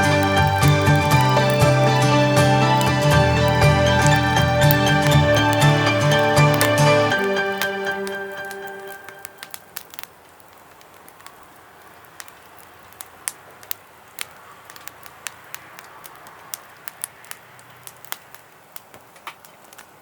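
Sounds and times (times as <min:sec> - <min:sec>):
fire crackles and pops: 0:00.0 - 0:20.0
wood fire hissing: 0:00.0 - 0:20.0.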